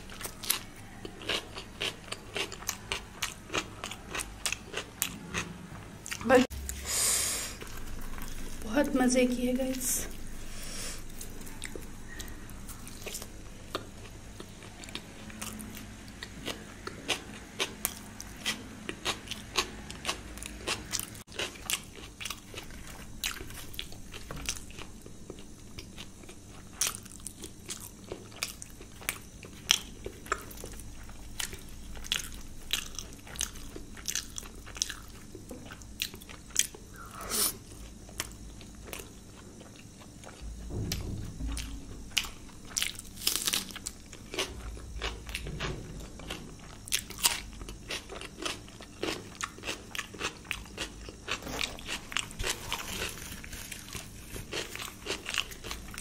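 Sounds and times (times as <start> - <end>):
person chewing food: 0.0 - 8.6, 10.1 - 40.5, 41.6 - 56.0.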